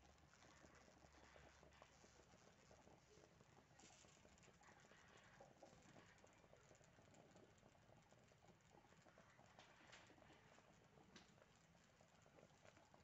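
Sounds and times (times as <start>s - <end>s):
faint crackling patter: 0.0s - 13.0s.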